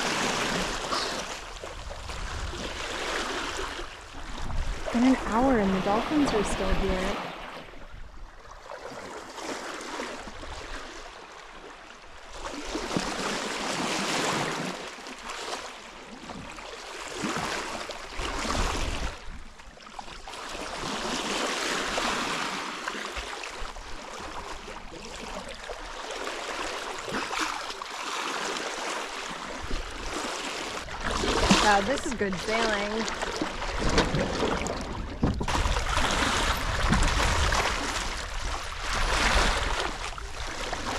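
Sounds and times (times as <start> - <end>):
water rushing along hull: 0.0 - 40.9.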